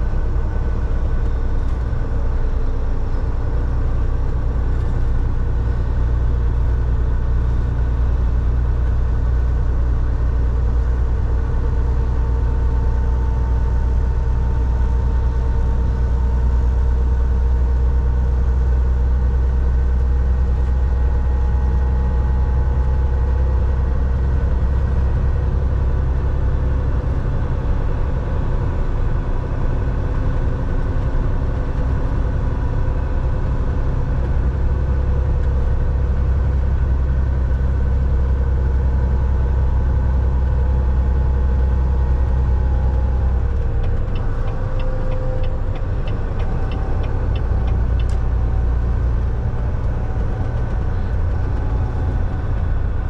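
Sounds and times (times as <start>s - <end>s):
road noise: 0.0s - 53.0s
truck diesel engine drone: 0.0s - 53.0s.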